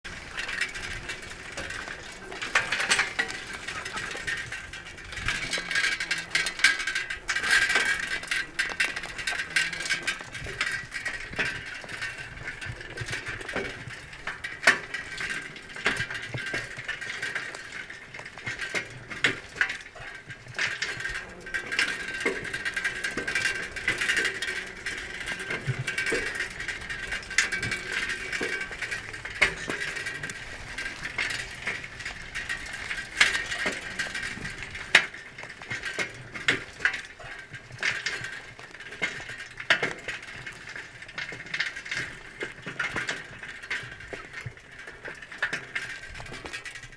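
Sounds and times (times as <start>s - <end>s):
bicycle drivetrain whirring: 0.0s - 46.9s
drivetrain clicks: 0.0s - 46.9s.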